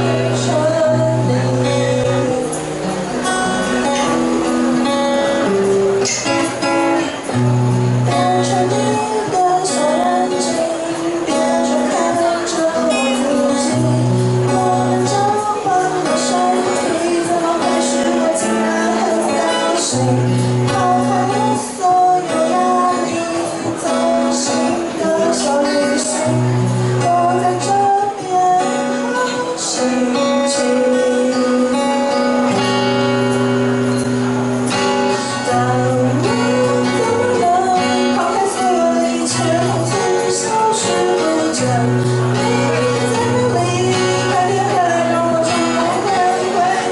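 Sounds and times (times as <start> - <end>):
person singing: 0.0 - 46.9
strummed acoustic guitar: 0.0 - 46.9.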